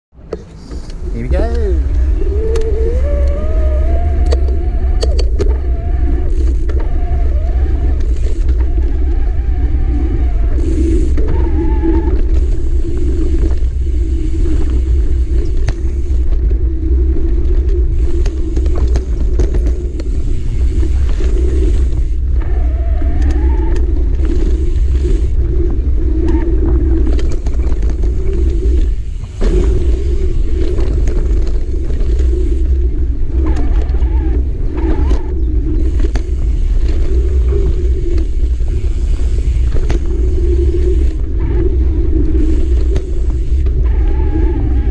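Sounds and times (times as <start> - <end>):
wind buffeting microphone: 0.2 - 44.9
bike tyres rumbling on dirt: 0.4 - 44.9.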